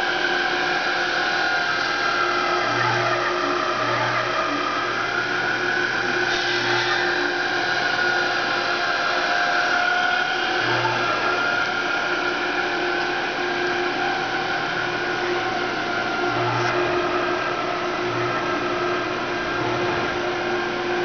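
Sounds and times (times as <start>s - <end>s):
turf roll-up machine humming: 0.0s - 21.0s.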